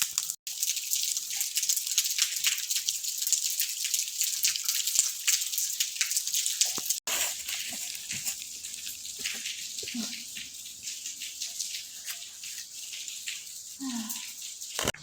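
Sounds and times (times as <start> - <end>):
falling water splashing and dripping: 0.0 - 15.0.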